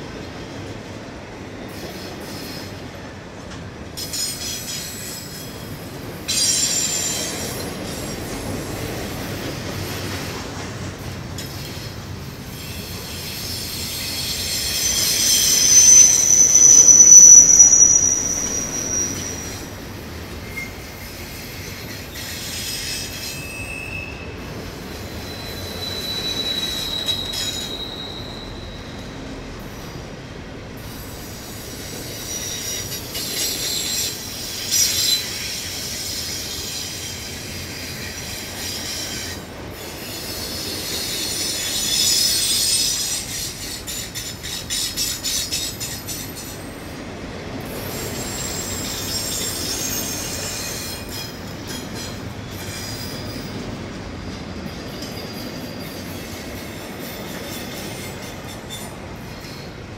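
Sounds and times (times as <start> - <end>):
freight train rumbling past: 0.0 - 59.9
steel wheel squeal: 4.0 - 9.6, 12.5 - 30.0, 30.8 - 47.0, 47.6 - 53.7, 54.8 - 59.8.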